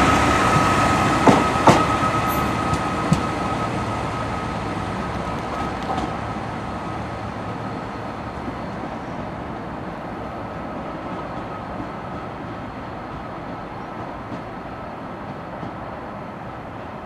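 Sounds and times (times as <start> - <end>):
diesel train running: 0.0 - 17.0.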